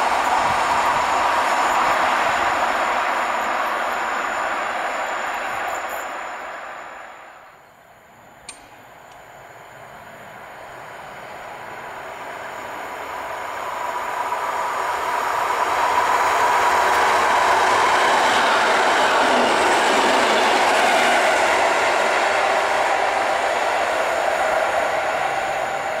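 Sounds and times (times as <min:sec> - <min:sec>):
train wheels on rails passing: 0:00.0 - 0:26.0.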